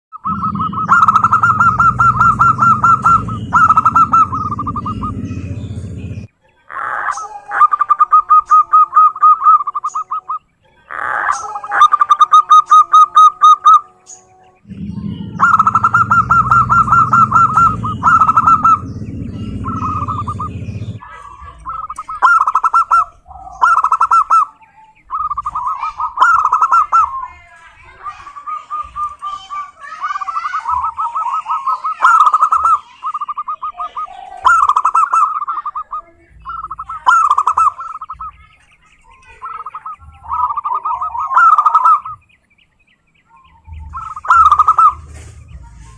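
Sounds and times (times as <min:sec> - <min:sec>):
dove cooing: 0:00.2 - 0:42.2, 0:43.3 - 0:45.9.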